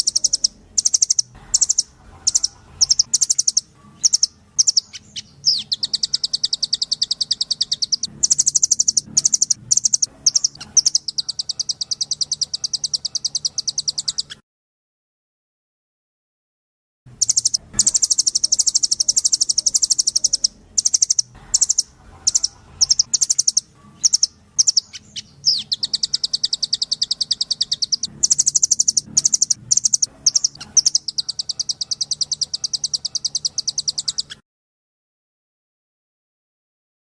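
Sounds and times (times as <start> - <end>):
bird calling in high trills: 0.0 - 14.4, 17.2 - 34.4.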